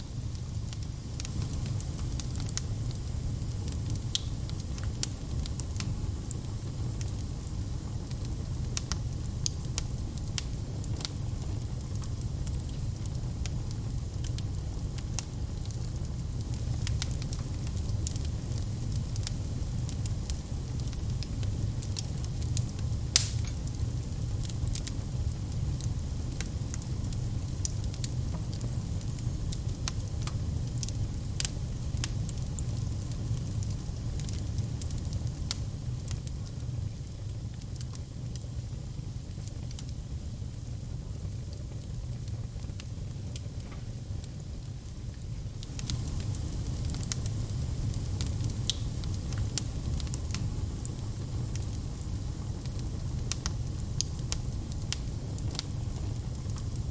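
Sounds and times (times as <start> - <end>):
low rumble of flames: 0.0 - 56.9
wood fire crackling: 0.0 - 56.9
sharp pops of fire: 0.2 - 7.2, 7.8 - 39.9, 40.7 - 56.9.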